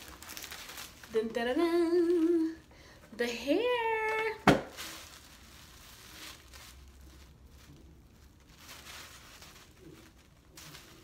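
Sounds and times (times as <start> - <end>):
faint rustling of wig: 0.0 - 11.0.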